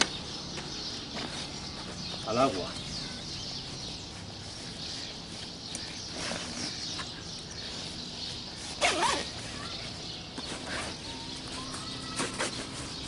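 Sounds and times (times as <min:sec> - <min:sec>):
birds calling: 0:00.0 - 0:13.0
nylon sling rustling: 0:00.9 - 0:13.0.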